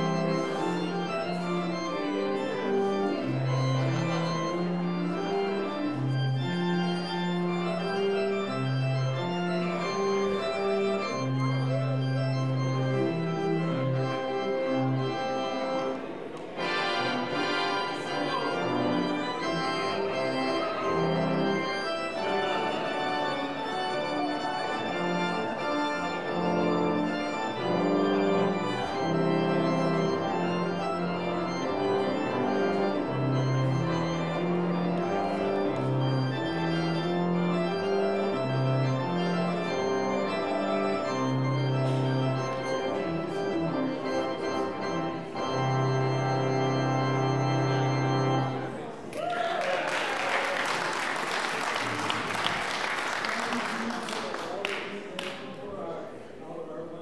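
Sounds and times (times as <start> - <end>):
church organ playing chords: 0.0 - 48.9.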